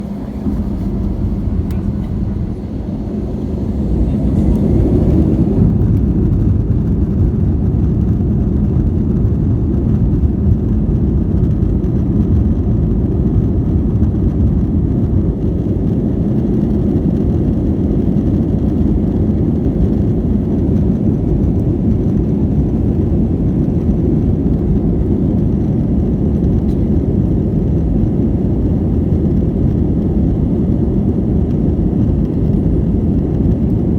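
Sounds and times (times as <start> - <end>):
airplane engine rumble: 0.0 - 33.9.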